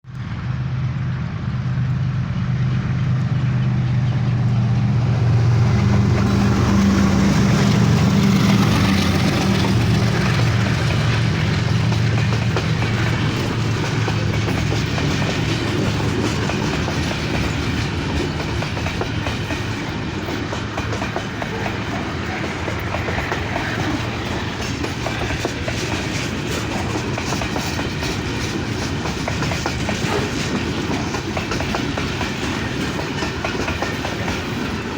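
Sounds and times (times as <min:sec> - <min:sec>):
locomotive engine hum: 0:00.1 - 0:34.9
train wheels clacking over rail joints: 0:01.8 - 0:34.9.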